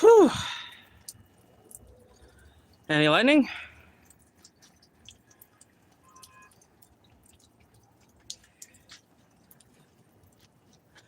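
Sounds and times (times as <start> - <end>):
scattered raindrops: 0.0 - 11.0
water drips ticking: 0.0 - 11.0.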